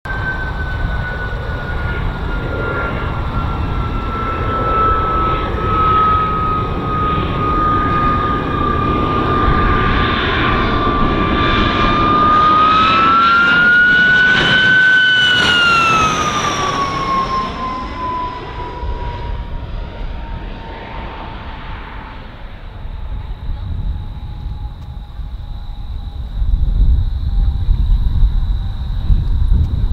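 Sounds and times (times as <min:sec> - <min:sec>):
jet engine howling whine: 0:00.0 - 0:29.9.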